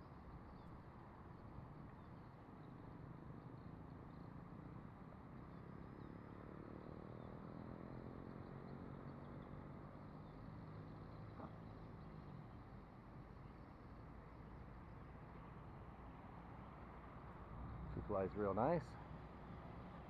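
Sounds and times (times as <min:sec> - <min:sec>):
low outdoor noise: 0:00.0 - 0:20.0.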